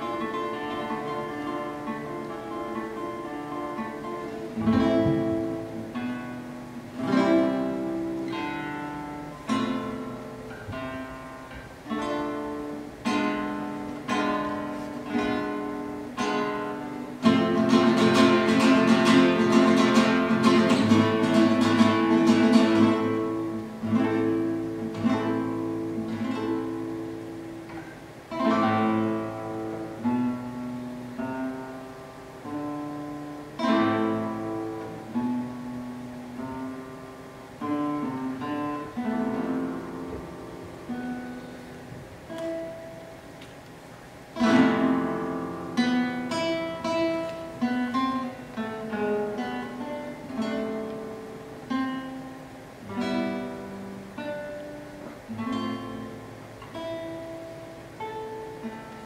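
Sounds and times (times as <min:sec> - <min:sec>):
loud strummed guitar chords: 0:00.0 - 0:43.4, 0:44.1 - 0:59.0
classical guitar plucked notes: 0:00.0 - 0:59.0.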